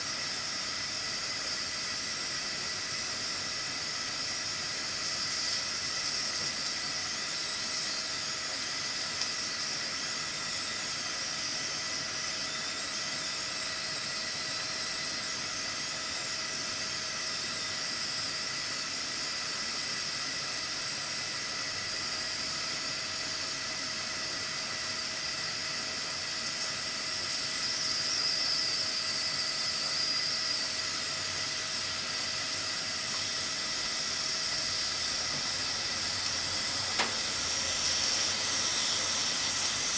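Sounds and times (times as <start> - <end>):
pressure cooker hissing steam: 0.0 - 39.9.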